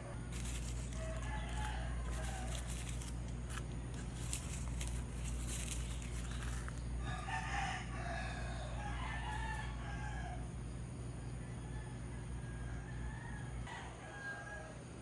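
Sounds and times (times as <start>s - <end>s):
steady low hum: 0.0s - 15.0s
rooster crowing: 0.3s - 15.0s.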